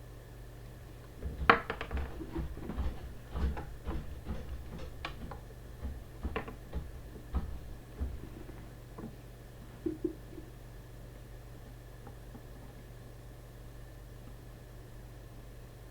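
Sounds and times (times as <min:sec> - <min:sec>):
low mains hum: 0:00.0 - 0:15.9.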